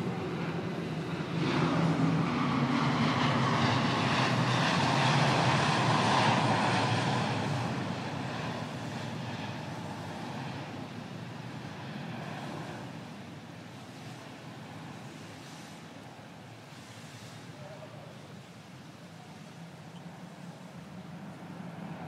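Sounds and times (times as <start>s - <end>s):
military aircraft flying past: 0.0s - 22.0s.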